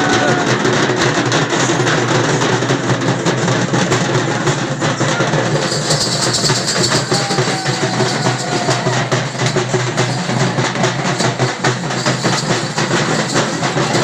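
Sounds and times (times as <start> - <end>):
frame drums beaten fast: 0.0 - 14.0.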